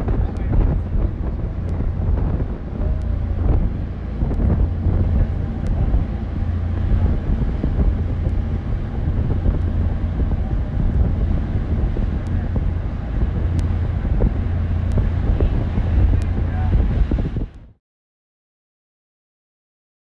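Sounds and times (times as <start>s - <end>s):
boat engine rumble: 0.0s - 17.8s
wind buffeting microphone: 0.0s - 17.8s.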